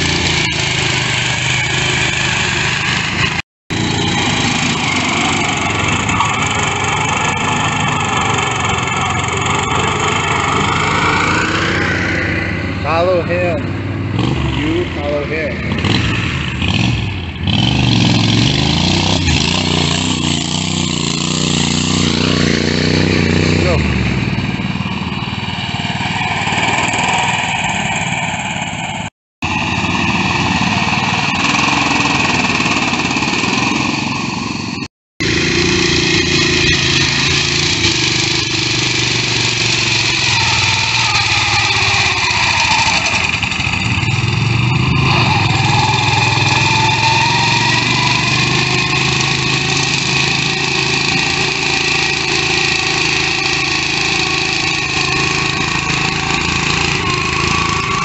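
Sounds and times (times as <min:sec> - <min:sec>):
garden tractor engines revving: 0:00.0 - 0:58.0.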